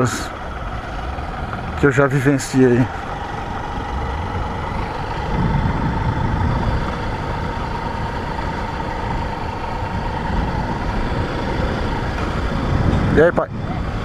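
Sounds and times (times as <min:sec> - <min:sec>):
motorcycle engine rumble: 0:00.0 - 0:14.0
road noise: 0:00.0 - 0:14.0
thin steady hum: 0:00.0 - 0:14.0.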